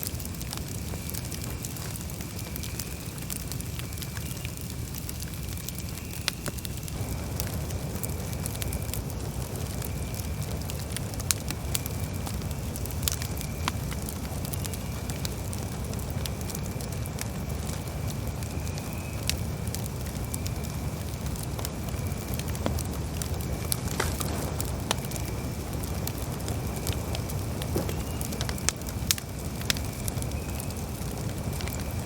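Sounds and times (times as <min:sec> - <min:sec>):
burning wood crackling and popping: 0:00.0 - 0:32.0
low rumble of flames: 0:00.0 - 0:32.0.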